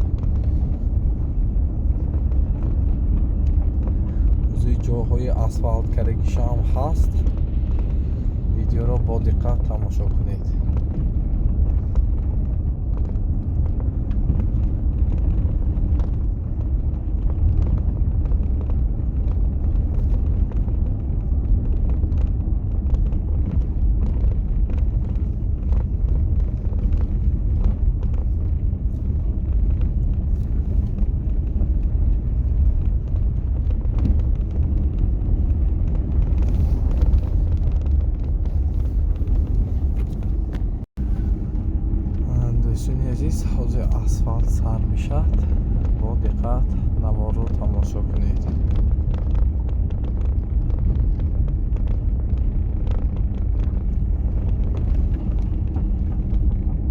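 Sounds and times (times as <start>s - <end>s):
faint crackles: 0.0s - 56.9s
vehicle rumble: 0.0s - 56.9s.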